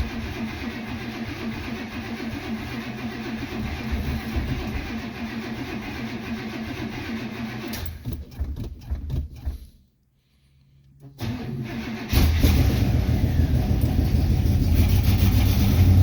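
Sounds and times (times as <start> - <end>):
starter cranking engine: 0.0 - 9.6, 11.2 - 16.0.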